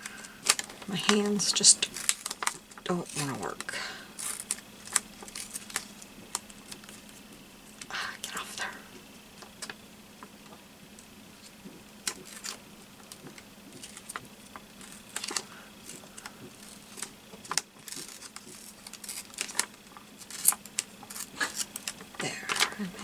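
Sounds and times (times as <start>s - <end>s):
paper rustling: 0.0s - 8.4s, 11.4s - 23.0s
faint steady hum: 0.0s - 23.0s.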